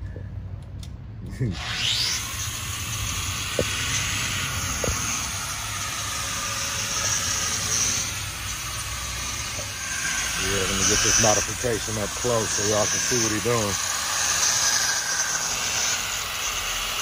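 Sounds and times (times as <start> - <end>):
power grinder grinding: 1.5 - 17.0.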